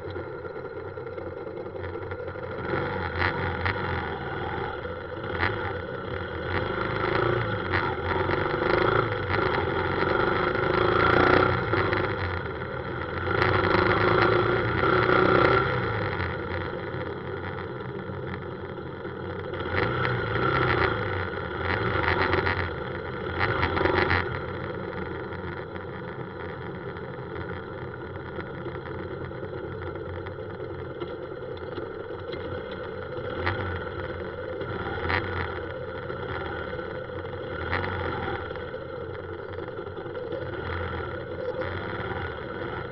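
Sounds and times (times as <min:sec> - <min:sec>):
motorbike engine running: 0:00.0 - 0:42.9
road and traffic noise: 0:00.0 - 0:42.9.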